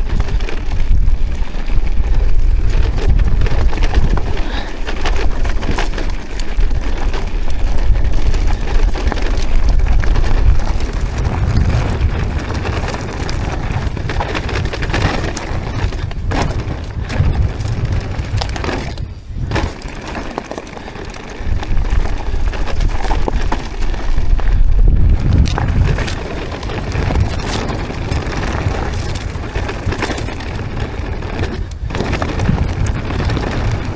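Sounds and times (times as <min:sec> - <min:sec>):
bike tyres rolling on dirt trail: 0:00.0 - 0:33.9
wind buffeting microphone: 0:00.0 - 0:33.9.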